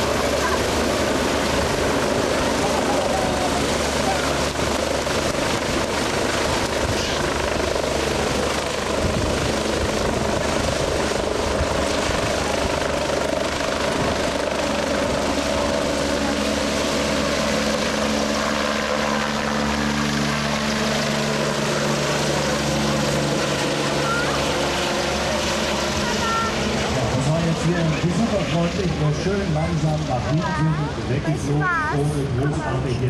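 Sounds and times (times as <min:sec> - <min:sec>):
helicopter rotor and turbine: 0:00.0 - 0:33.0.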